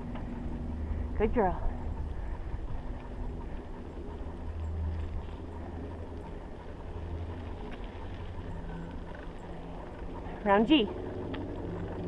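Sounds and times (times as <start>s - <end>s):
low rumble of riding on dirt trail: 0.0s - 12.0s
wind buffeting microphone: 0.0s - 12.0s.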